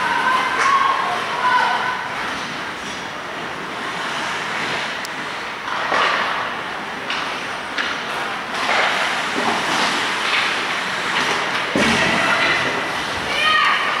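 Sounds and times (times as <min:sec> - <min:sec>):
crowd noise: 0:00.0 - 0:14.0
skates scraping ice: 0:00.0 - 0:14.0.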